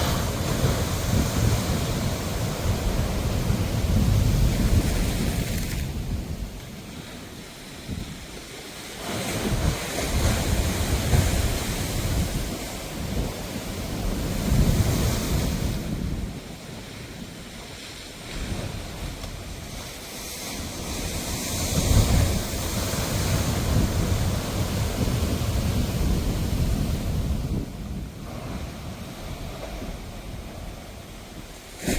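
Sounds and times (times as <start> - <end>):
wind buffeting microphone: 0.0 - 17.2, 18.3 - 31.9
sea waves surging: 0.0 - 31.9.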